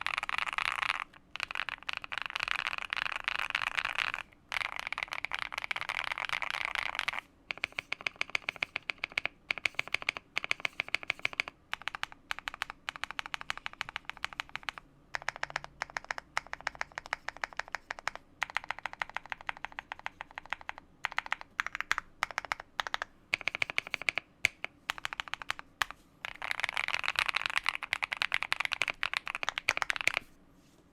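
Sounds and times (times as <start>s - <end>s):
mechanical keyboard typing: 0.0s - 30.3s.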